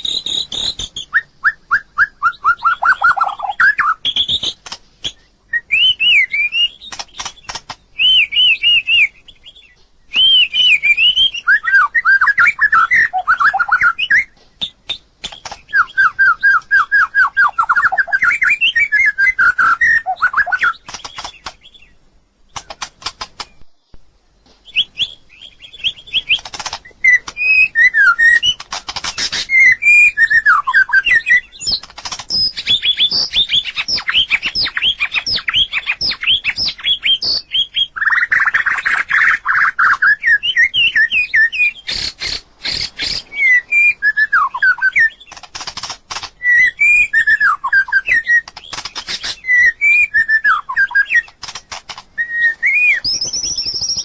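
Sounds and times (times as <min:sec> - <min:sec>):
bird singing whistled phrases: 0:00.0 - 0:07.3, 0:08.0 - 0:21.9, 0:24.7 - 0:28.6, 0:29.2 - 0:45.4, 0:46.4 - 0:51.4, 0:52.2 - 0:54.0.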